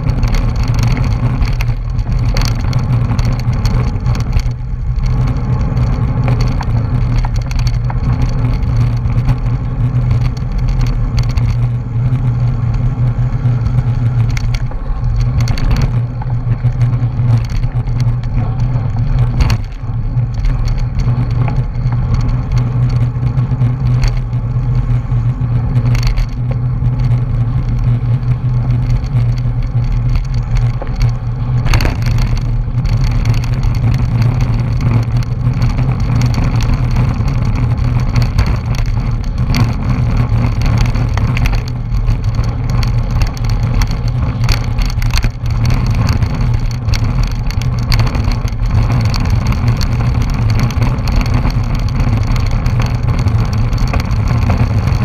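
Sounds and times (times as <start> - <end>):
road rumble: 0.0 - 55.0.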